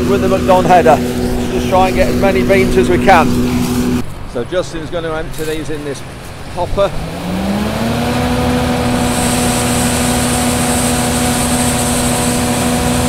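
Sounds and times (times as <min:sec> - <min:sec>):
combine engine revving: 0:00.0 - 0:13.0.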